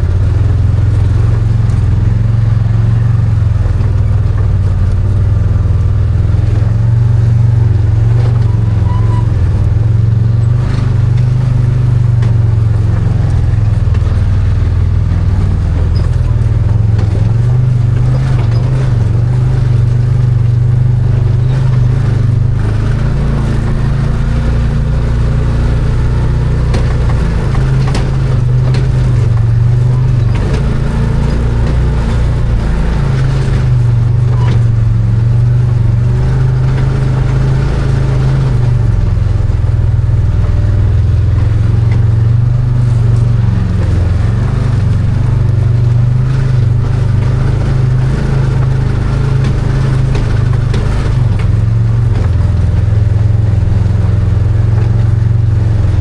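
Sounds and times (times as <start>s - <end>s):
knocks and rattles: 0.0s - 56.0s
vehicle engine running: 0.0s - 56.0s.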